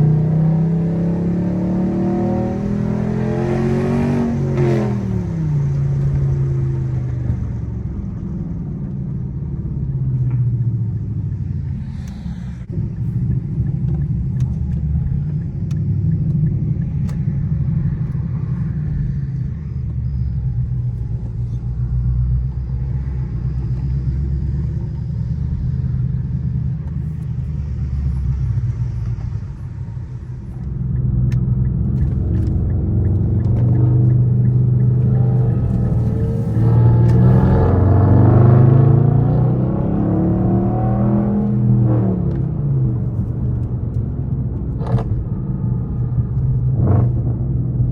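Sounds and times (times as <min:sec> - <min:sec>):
car exhaust low note: 0:00.0 - 0:47.9.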